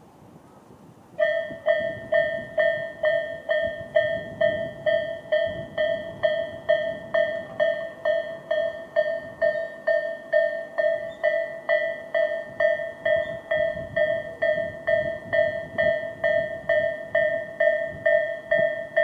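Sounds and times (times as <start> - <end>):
level crossing warning bell: 1.2 - 19.0.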